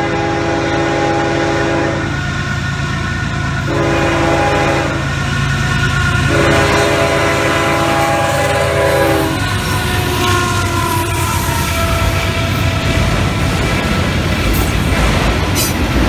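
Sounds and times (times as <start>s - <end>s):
locomotive air horn blasts: 0.0s - 13.1s
diesel engines rumbling: 0.0s - 16.0s.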